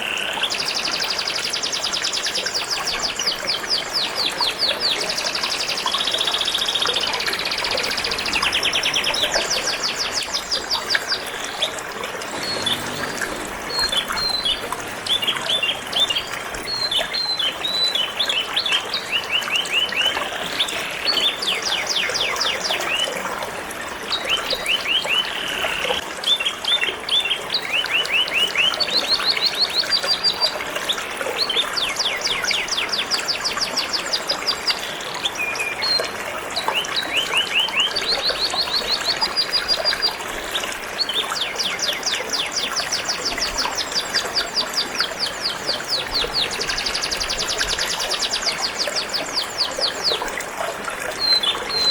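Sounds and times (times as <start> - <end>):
water trickling: 0.0 - 51.9.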